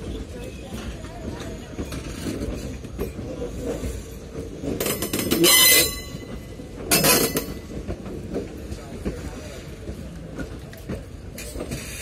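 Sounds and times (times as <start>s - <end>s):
train wheel clatter: 0.0s - 12.0s
train wheels rumbling over rails: 0.0s - 12.0s.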